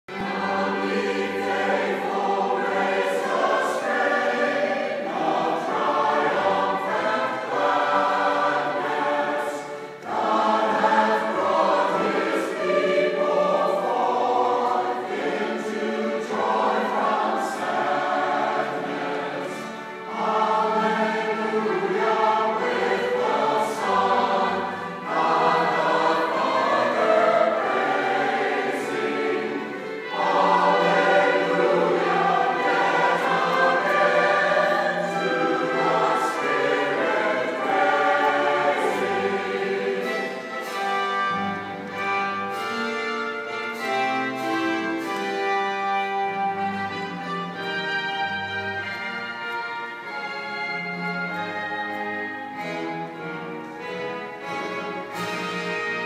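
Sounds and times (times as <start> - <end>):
church choir singing in harmony: 0.0 - 56.0.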